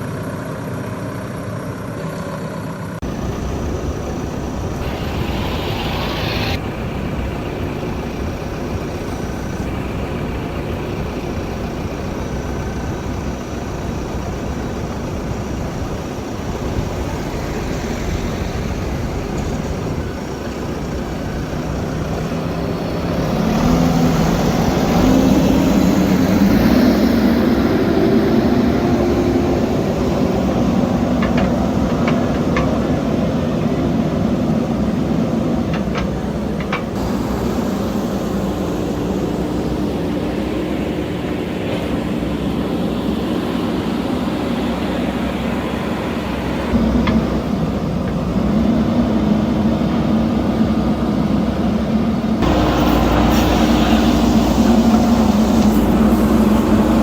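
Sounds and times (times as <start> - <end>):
backhoe diesel engine running: 0.0 - 57.0.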